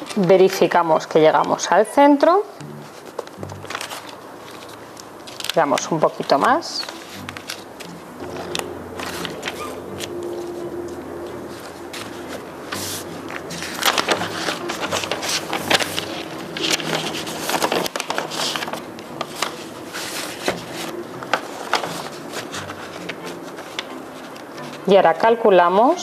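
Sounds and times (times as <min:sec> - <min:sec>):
wrapping paper crinkling: 0:02.8 - 0:24.9.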